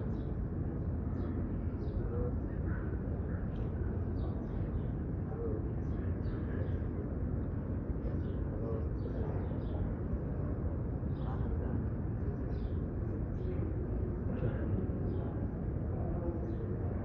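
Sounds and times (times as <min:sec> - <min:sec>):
fans and air conditioning hum: 0:00.0 - 0:17.0
murmur of indoor crowd: 0:00.0 - 0:17.0.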